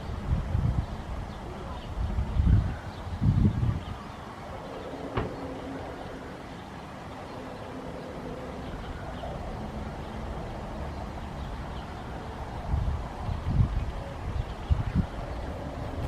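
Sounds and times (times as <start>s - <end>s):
wind buffeting microphone: 0.0s - 6.2s, 8.7s - 16.0s.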